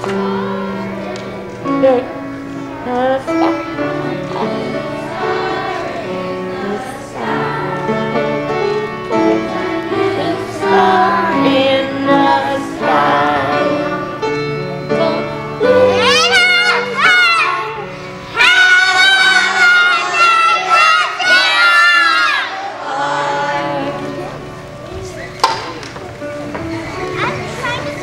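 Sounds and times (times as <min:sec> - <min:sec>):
children's choir singing: 0:00.0 - 0:28.0
instrumental accompaniment: 0:00.0 - 0:28.0.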